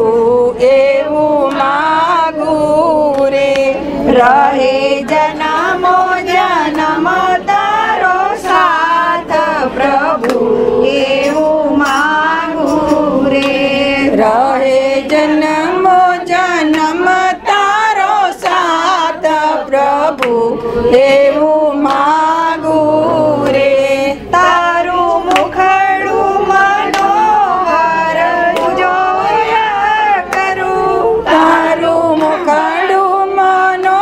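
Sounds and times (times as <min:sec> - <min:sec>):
devotional song being sung: 0:00.0 - 0:34.0.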